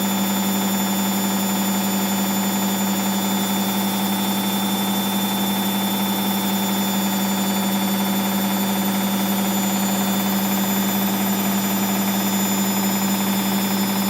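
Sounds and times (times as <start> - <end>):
washing machine spinning: 0.0 - 14.0.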